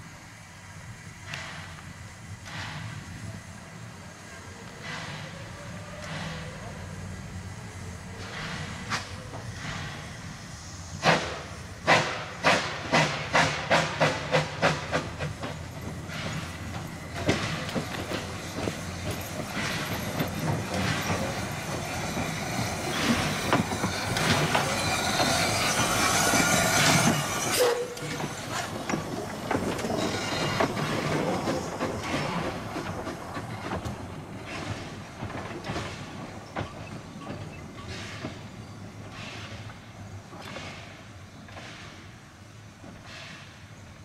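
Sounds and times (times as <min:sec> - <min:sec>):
steam train chuffing: 0:00.0 - 0:44.0
train running noise with hiss: 0:00.0 - 0:44.0
train wheel squeal: 0:02.4 - 0:42.2.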